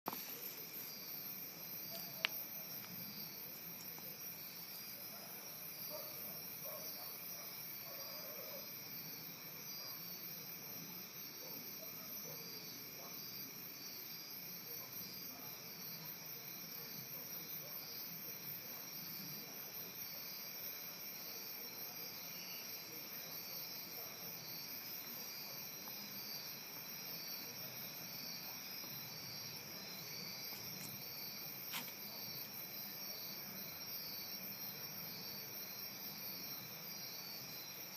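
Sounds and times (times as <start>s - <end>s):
night insects trilling: 0.1s - 37.9s.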